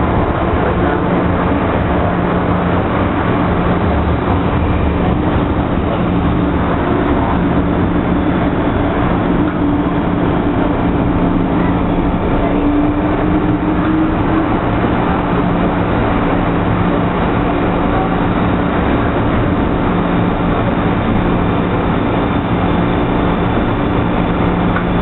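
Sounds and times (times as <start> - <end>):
low motor hum: 0.0 - 25.0
train wheels rumbling on track: 0.0 - 25.0.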